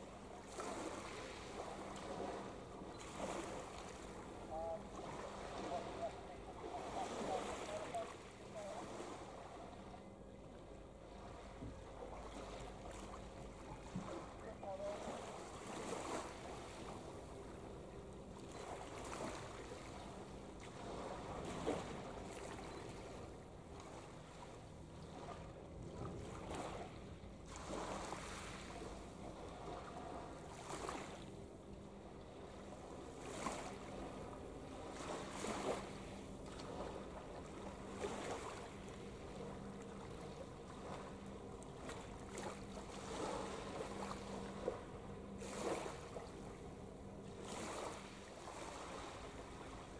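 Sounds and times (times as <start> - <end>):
low drone of ship engines: 0.0 - 49.9
small waves washing in: 0.0 - 49.9.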